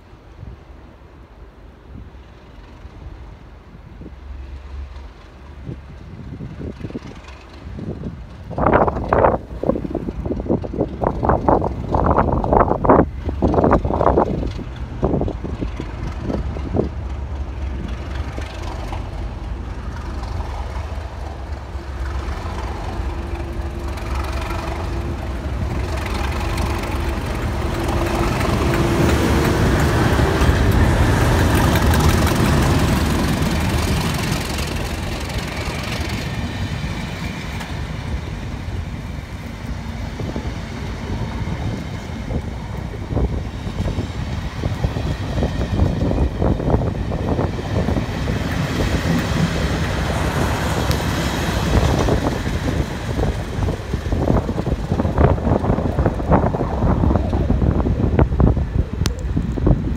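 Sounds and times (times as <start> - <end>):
diesel locomotive passing: 0.0 - 59.9
train coaches rumbling over rails: 0.0 - 59.9.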